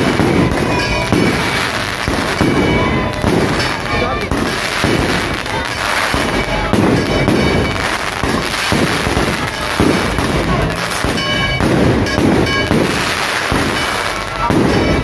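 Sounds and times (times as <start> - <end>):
fireworks bursting: 0.0 - 15.0
sharp firework bangs: 0.0 - 15.0.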